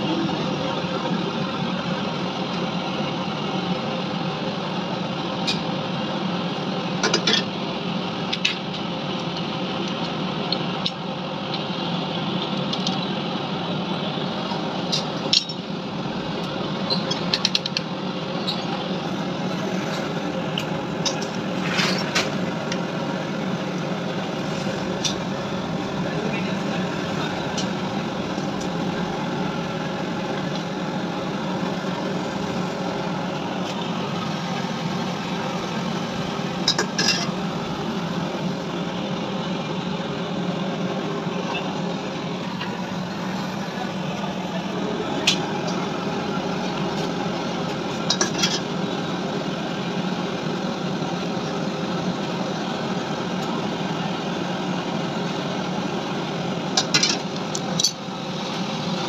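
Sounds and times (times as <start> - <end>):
mechanical hum: 0.0 - 59.0.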